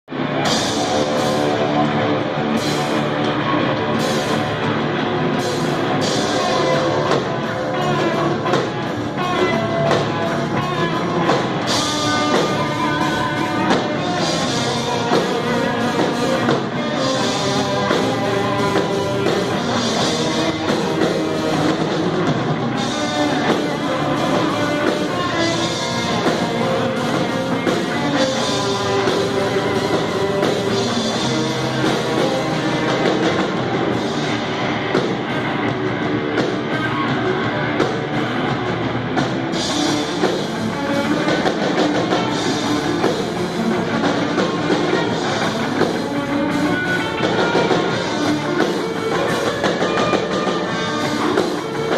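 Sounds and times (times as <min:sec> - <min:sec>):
rock band playing: 0:00.1 - 0:51.9.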